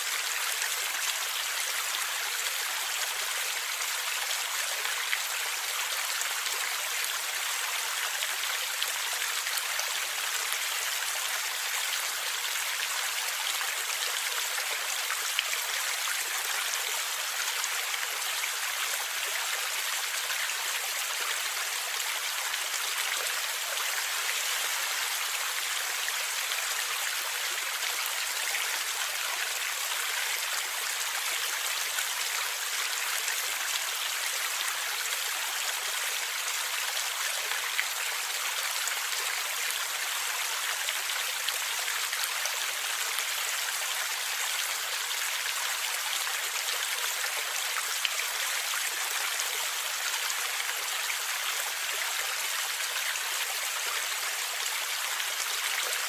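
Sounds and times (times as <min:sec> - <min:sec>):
river flowing and gurgling: 0:00.0 - 0:56.0.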